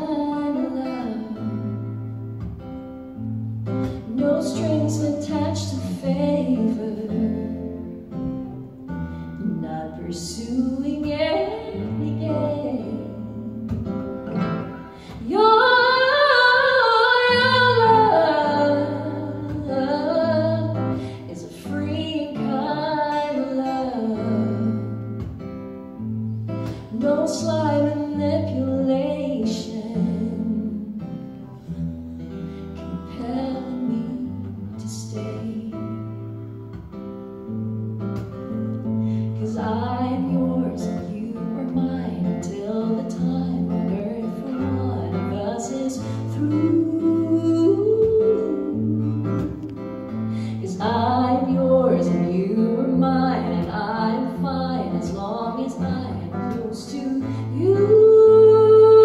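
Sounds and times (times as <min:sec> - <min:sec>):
woman singing: 0:00.0 - 0:31.8, 0:32.6 - 0:36.9, 0:38.2 - 0:59.0
acoustic guitar: 0:00.0 - 0:59.0.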